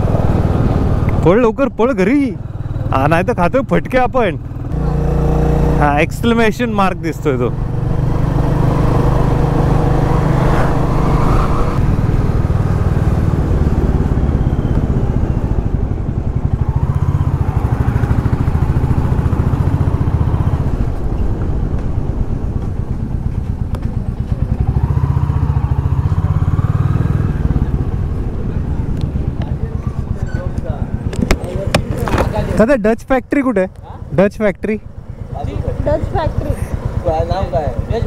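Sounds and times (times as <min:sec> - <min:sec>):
motorcycle engine running: 0:00.0 - 0:11.0, 0:11.8 - 0:32.8, 0:34.8 - 0:38.0.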